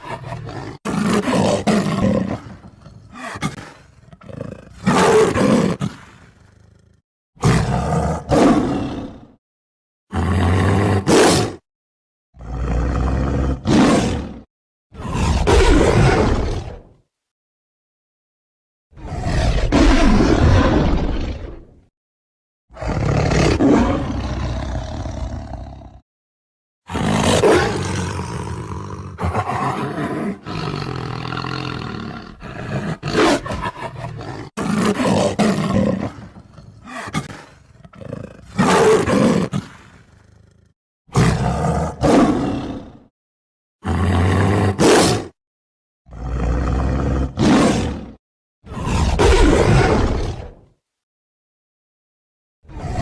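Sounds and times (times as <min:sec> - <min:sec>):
tiger roaring and growling: 0:00.0 - 0:09.4, 0:10.1 - 0:11.6, 0:12.4 - 0:17.0, 0:18.9 - 0:21.9, 0:22.7 - 0:26.0, 0:26.9 - 0:43.1, 0:43.8 - 0:45.4, 0:46.1 - 0:50.7, 0:52.6 - 0:53.0.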